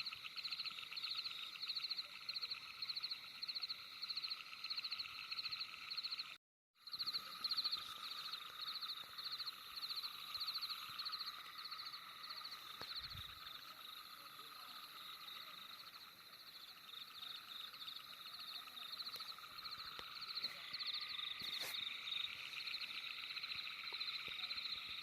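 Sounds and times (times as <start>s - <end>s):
frogs trilled chirps: 0.0s - 25.0s
high-pitched frog calling drone: 0.0s - 25.0s.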